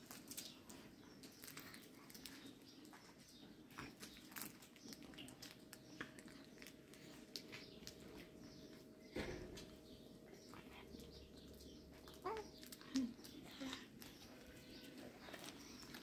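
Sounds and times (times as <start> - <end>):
faint clicks and rustles: 0.0 - 16.0
faint steady hum: 0.0 - 16.0.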